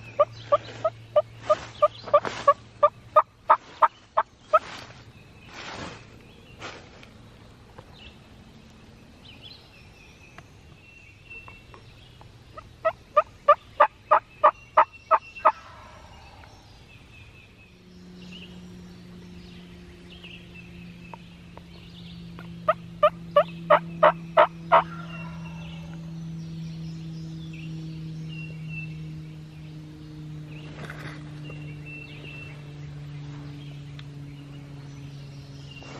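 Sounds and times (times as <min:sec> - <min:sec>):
songbirds chirping faintly: 0:00.0 - 0:35.9
steady low hum: 0:00.0 - 0:35.9.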